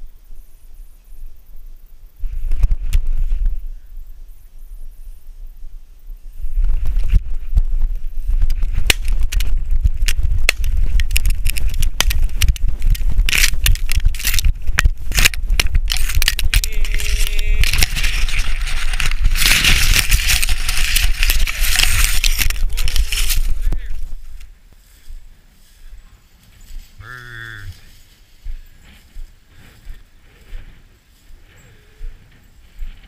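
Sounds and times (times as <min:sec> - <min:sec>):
low wind rumble: 0:01.0 - 0:33.0
dry brush crunching against camera: 0:06.4 - 0:33.0.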